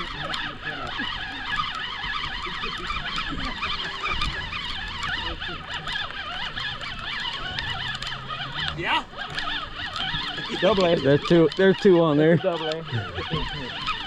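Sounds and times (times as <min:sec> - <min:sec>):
flock of birds squealing: 0:00.0 - 0:14.0.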